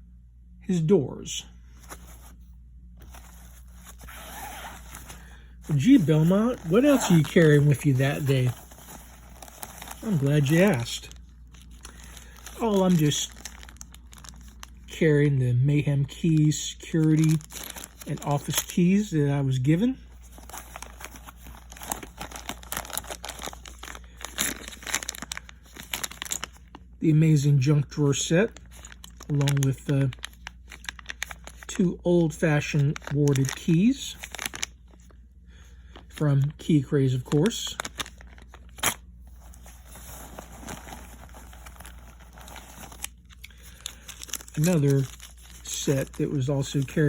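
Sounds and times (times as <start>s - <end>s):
plastic packaging crinkling: 3.0s - 15.0s, 16.2s - 26.9s, 27.6s - 35.2s, 37.2s - 47.0s.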